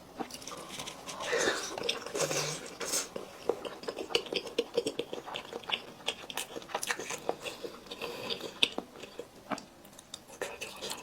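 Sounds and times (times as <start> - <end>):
chewing and biting food: 0.2 - 11.0.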